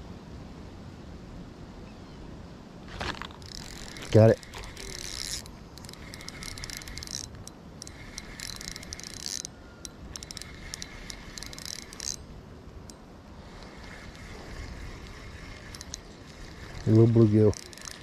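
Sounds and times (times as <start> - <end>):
fishing reel gears whirring: 3.0 - 18.0
light reel clicks: 3.4 - 18.0.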